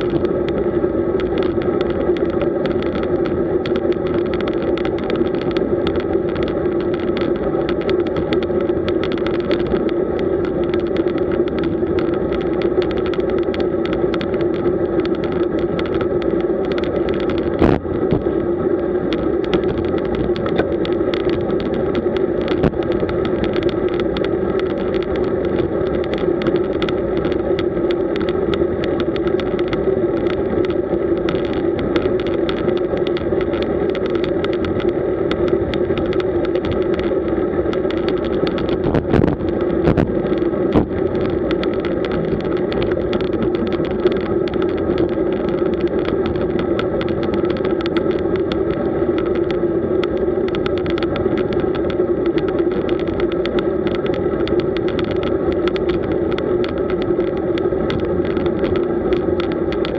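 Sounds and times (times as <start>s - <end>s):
bicycle tyre noise: 0.0s - 59.9s
wind rush: 0.0s - 59.9s.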